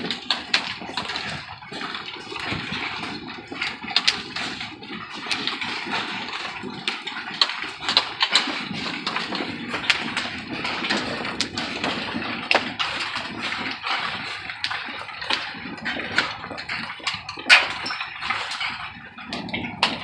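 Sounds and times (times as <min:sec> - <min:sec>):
hailstones pattering: 0:00.0 - 0:20.0
hailstones striking close: 0:00.0 - 0:20.0.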